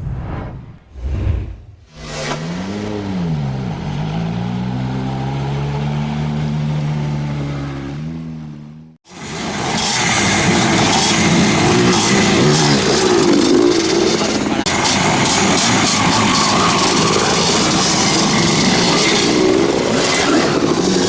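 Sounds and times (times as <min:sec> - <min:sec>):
loud rough engine: 0:01.9 - 0:21.0
motorcycle engine running: 0:02.0 - 0:21.0.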